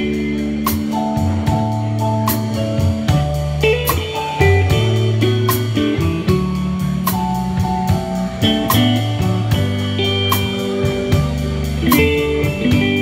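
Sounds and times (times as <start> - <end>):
drums: 0.0 - 13.0
electric guitar playing held notes: 0.0 - 13.0.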